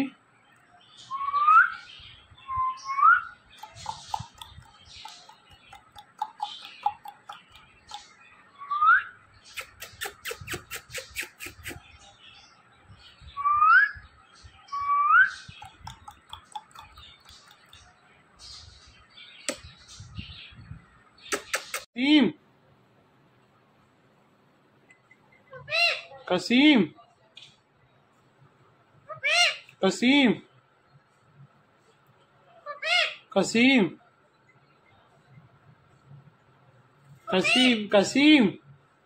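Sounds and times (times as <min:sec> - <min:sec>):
bird chirping softly: 0:00.0 - 0:22.0, 0:24.6 - 0:39.0.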